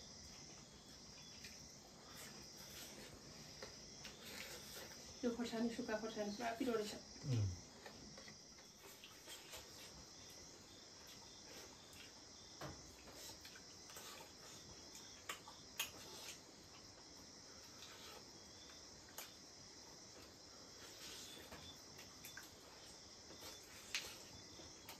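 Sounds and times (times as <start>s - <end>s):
crickets chirping: 0.0s - 24.9s.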